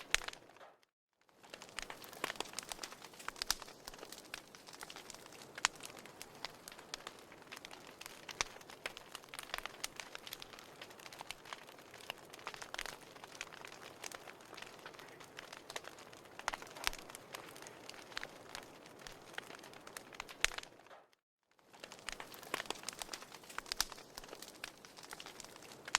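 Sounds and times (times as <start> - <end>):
firewood crackling and popping: 0.0 - 25.9.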